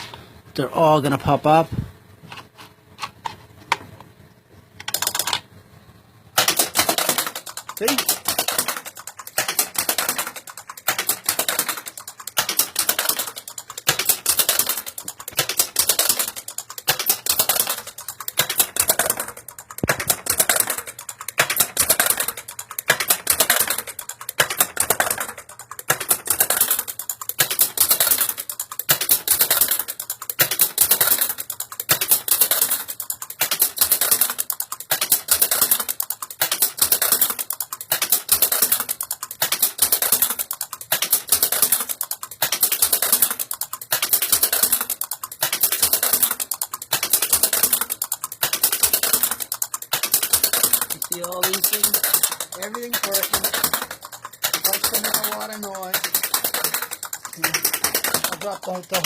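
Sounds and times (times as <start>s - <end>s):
pinball solenoids clicking and clacking: 4.8s - 5.5s, 6.3s - 59.0s.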